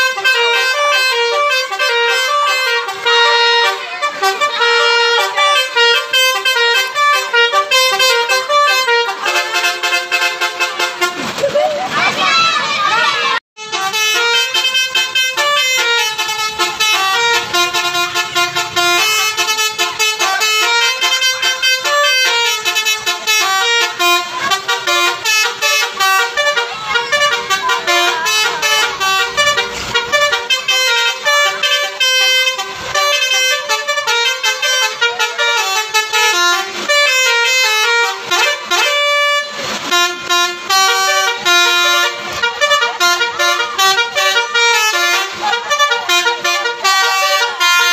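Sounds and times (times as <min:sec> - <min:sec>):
musical bus horn melody: 0:00.0 - 0:11.4, 0:13.2 - 0:47.9.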